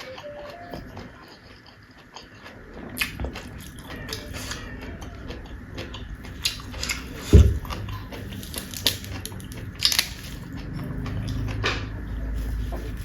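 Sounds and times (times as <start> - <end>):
crunchy food being chewed: 0.0 - 13.0.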